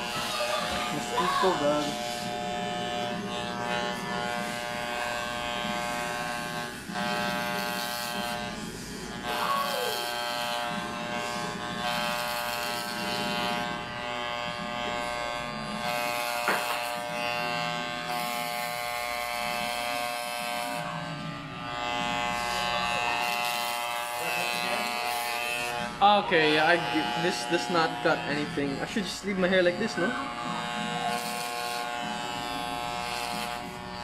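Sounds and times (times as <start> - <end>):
electric hair clippers buzzing: 0.0 - 34.0.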